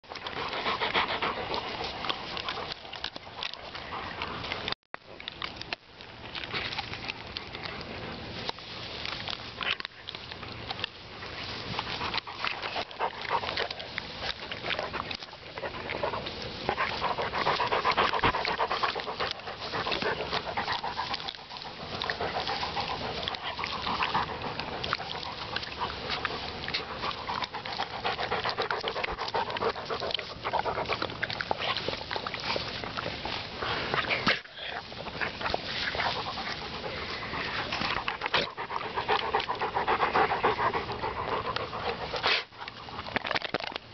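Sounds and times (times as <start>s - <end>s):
dry grass rustling: 0.0s - 43.9s
dog panting heavily: 0.1s - 4.7s, 11.7s - 43.1s.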